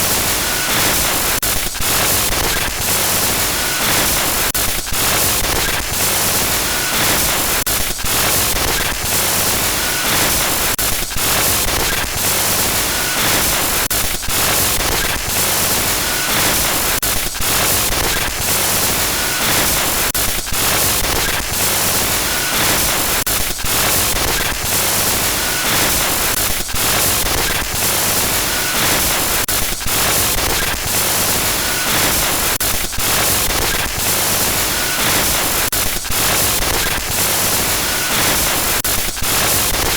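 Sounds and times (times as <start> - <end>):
harsh static glitch noise: 0.0 - 39.9.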